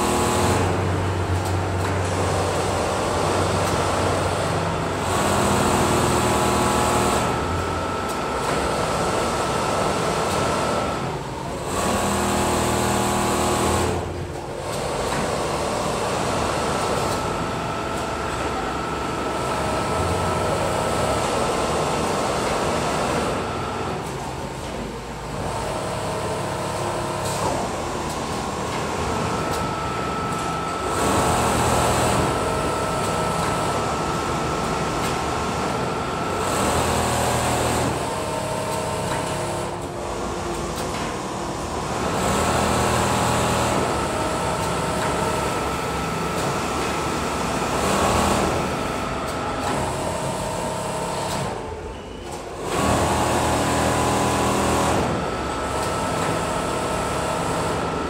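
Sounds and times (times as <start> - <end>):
sewing machines running: 0.0 - 58.0.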